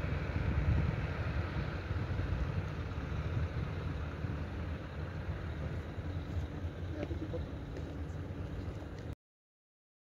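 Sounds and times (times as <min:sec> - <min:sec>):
wind on microphone: 0:00.0 - 0:09.0
heavy vehicles rumbling: 0:00.0 - 0:09.2.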